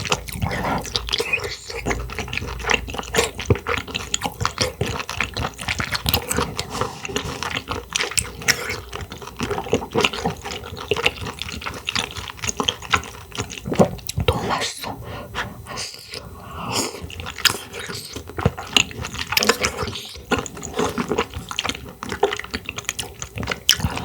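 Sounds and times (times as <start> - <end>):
person chewing and slurping clams: 0.0 - 24.0.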